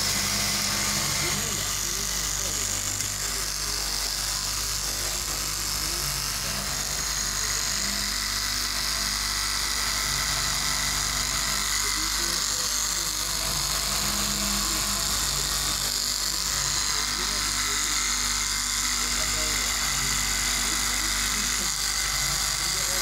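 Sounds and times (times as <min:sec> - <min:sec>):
cloth cutting machine buzzing: 0:00.0 - 0:23.0.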